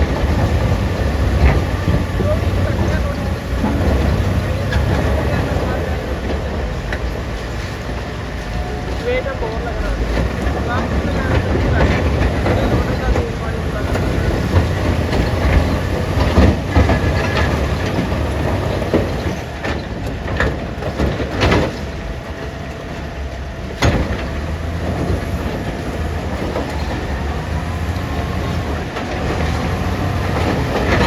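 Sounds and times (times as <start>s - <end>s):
sharp knocks and clanks: 0.0s - 23.0s, 23.6s - 31.0s
diesel machinery humming: 0.0s - 31.0s.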